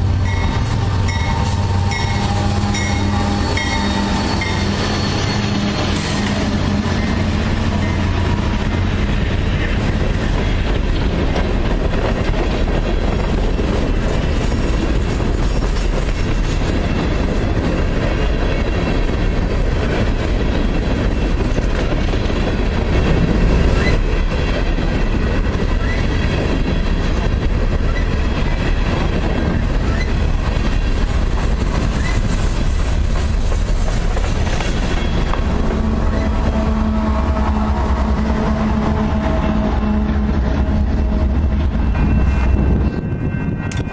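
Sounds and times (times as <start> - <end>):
train cars rolling on rails: 0.0 - 43.9.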